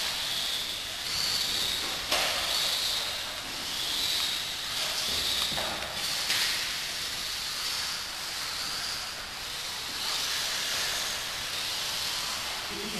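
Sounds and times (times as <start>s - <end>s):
motor and gear whine: 0.0s - 12.9s.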